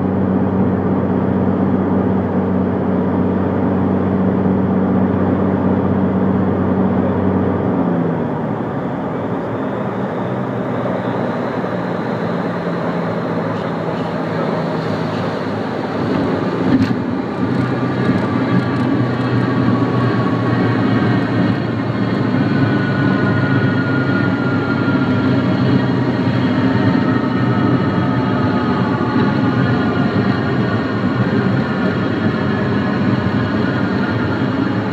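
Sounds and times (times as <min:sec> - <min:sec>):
propeller plane engine from cabin: 0:00.0 - 0:34.9.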